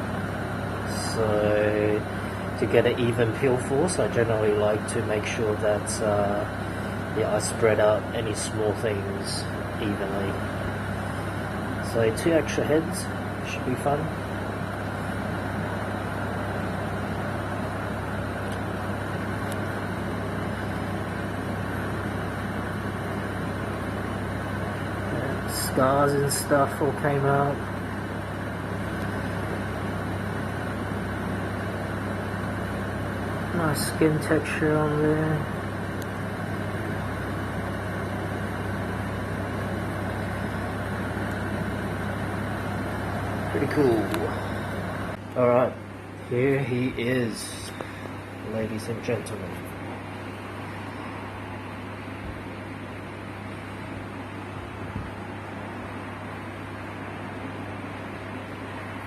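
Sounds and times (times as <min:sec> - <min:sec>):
ventilation hum and hiss: 0:00.0 - 0:59.0.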